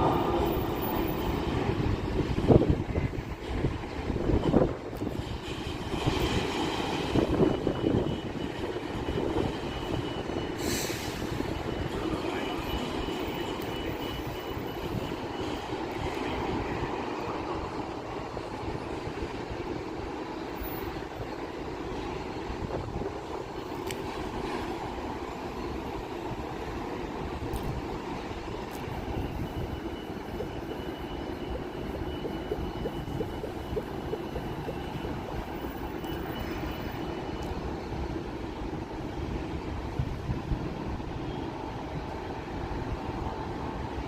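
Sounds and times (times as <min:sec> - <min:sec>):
thin high engine whine: 0:00.0 - 0:03.4, 0:05.4 - 0:39.6
jet engines rumbling: 0:00.0 - 0:41.4.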